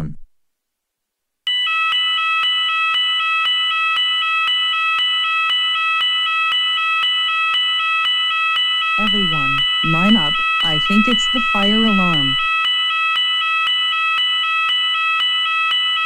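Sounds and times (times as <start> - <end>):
fire alarm ringing: 1.5 - 16.0.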